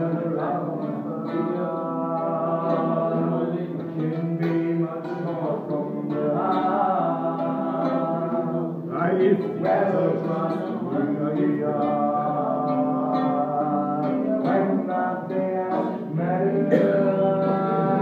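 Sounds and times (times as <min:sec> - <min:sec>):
jazz guitar chords: 0:00.0 - 0:18.0
man singing: 0:00.0 - 0:18.0.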